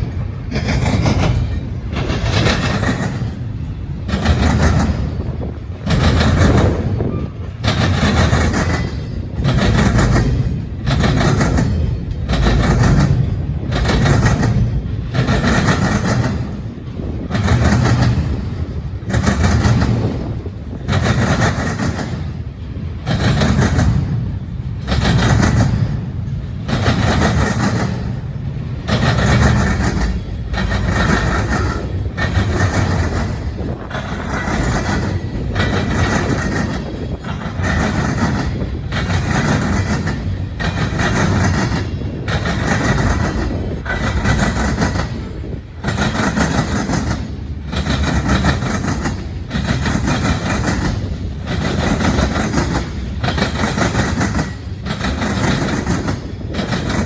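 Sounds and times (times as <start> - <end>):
train rolling rumble: 0.0 - 57.0
train wheels clattering over crossing: 0.0 - 57.0.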